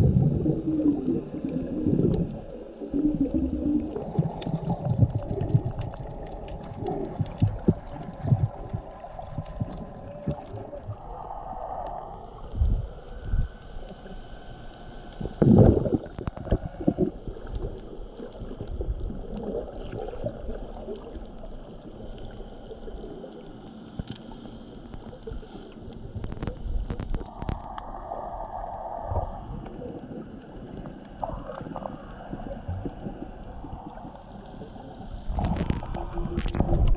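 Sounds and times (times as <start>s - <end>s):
underwater gurgling and sloshing: 0.0s - 36.9s.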